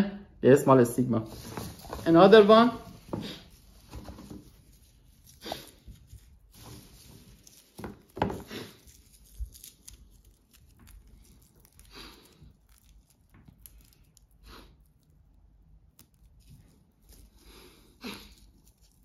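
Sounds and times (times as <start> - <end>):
dry husks rustling and tearing: 1.2 - 15.3, 15.9 - 19.0.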